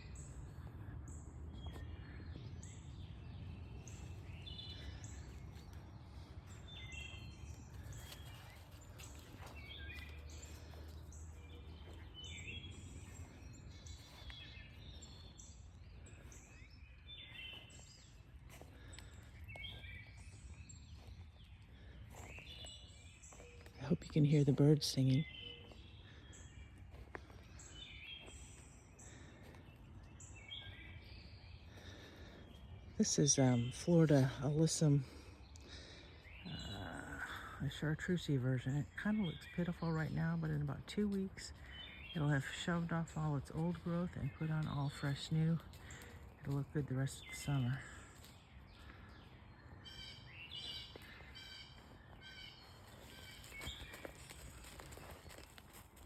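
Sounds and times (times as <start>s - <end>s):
faint birdsong: 0.0s - 56.0s
quiet outdoor background noise: 0.0s - 56.0s
songbirds chirping: 0.0s - 56.0s.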